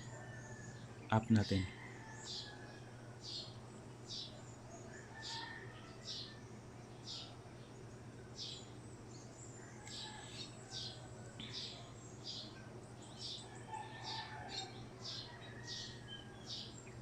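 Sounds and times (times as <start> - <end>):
bird chirping: 3.2 - 17.0.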